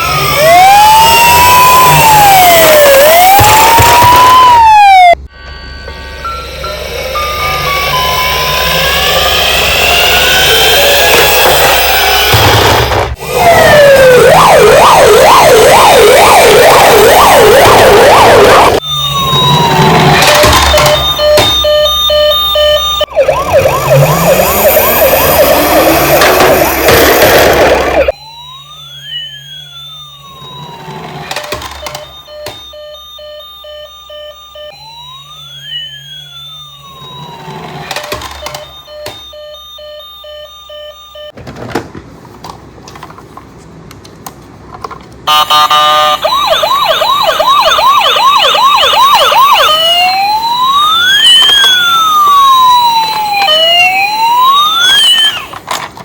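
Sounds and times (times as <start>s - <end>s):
slow wailing toy siren: 0.0s - 12.5s, 13.2s - 41.4s, 45.3s - 55.8s
fast warbling toy siren: 0.0s - 12.6s, 13.2s - 41.4s, 45.3s - 55.7s.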